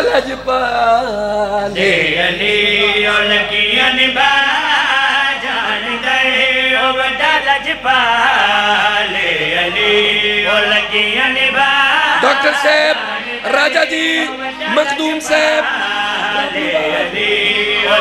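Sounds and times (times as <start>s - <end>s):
men chanting over loudspeakers: 0.0s - 18.0s.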